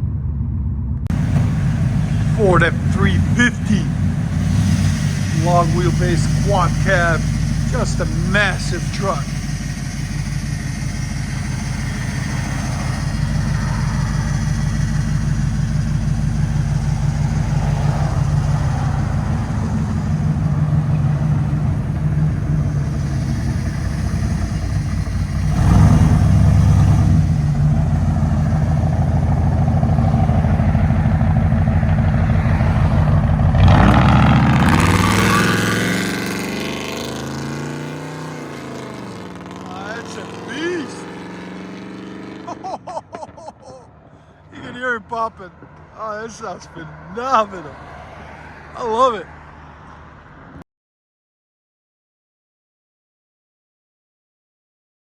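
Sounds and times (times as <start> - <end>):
truck engine exhaust rumbling: 0.0 - 49.5.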